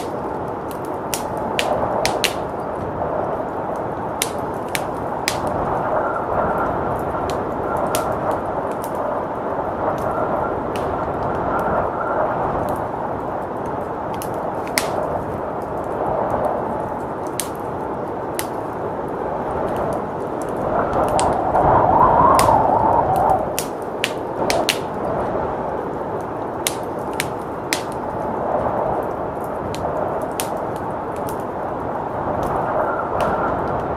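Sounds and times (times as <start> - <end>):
blizzard wind rushing: 0.0 - 33.9
wood fire crackling and popping: 0.0 - 33.9.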